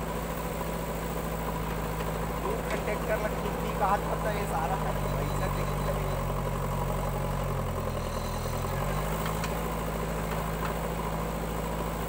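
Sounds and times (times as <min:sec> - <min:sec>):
diesel engine running: 0:00.0 - 0:12.0
digger bucket digging earth: 0:00.0 - 0:12.0.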